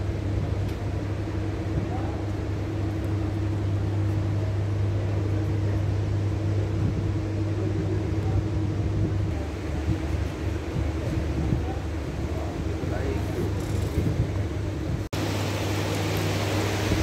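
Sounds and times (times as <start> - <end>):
constant hiss: 0.0 - 17.0
low droning hum: 0.0 - 17.0.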